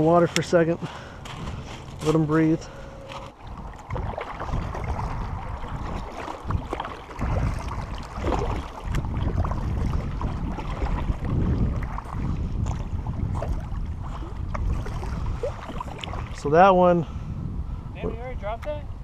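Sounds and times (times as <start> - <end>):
water around a hull: 0.0 - 19.0
wind rumble on microphone: 0.0 - 19.0.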